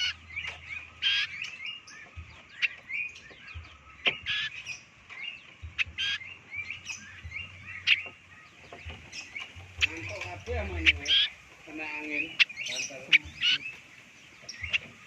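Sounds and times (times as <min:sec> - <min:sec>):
bird chirping: 0:00.0 - 0:15.0
loud noisy bird calls: 0:00.0 - 0:15.0.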